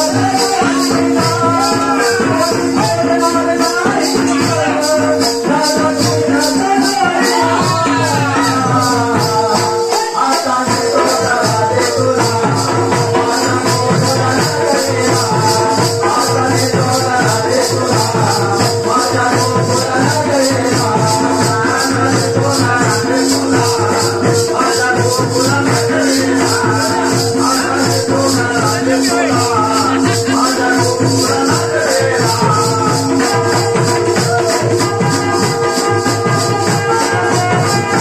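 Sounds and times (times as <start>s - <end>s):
fast high percussion: 0.0s - 38.0s
hand drum: 0.0s - 38.0s
man singing into a microphone: 0.0s - 38.0s.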